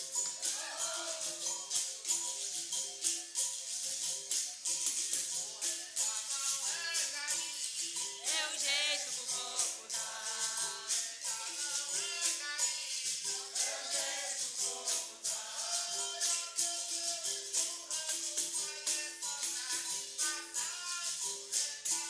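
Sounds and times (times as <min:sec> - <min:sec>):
voices singing: 0:00.0 - 0:02.2, 0:05.0 - 0:22.0
jingling tambourine: 0:00.0 - 0:22.0
shaker: 0:00.0 - 0:22.0.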